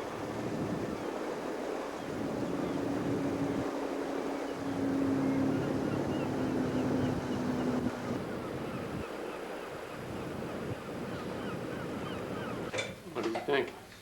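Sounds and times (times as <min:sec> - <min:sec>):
boat motor humming: 0:00.0 - 0:12.7
water noise: 0:00.0 - 0:13.2
wind: 0:00.0 - 0:14.0.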